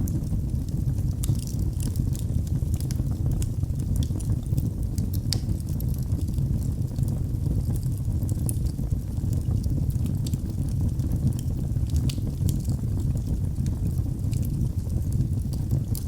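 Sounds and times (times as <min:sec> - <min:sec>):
fire flames rumbling: 0:00.0 - 0:16.0
wood fire crackling and popping: 0:00.0 - 0:16.0.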